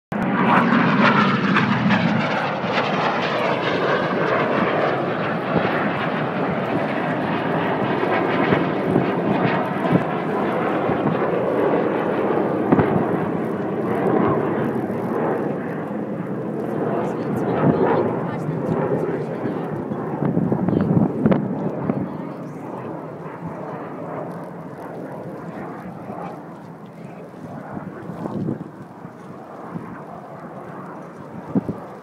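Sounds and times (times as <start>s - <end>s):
jets flying past: 0.2s - 32.0s.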